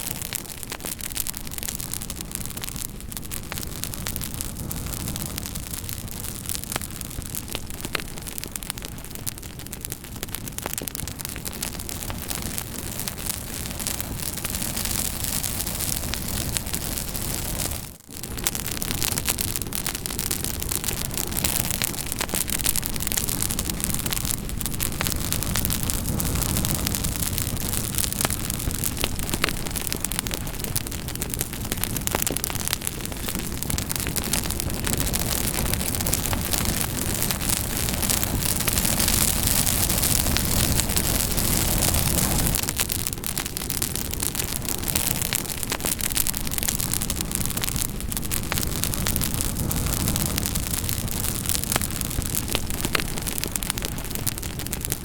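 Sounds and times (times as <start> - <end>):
burning wood rumble and hiss: 0.0 - 55.0
campfire pops and snaps: 0.0 - 55.0.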